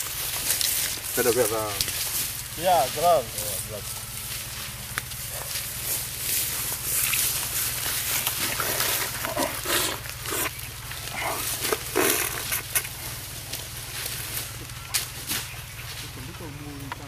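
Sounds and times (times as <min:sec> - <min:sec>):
dry leaves rustling: 0:00.0 - 0:17.0.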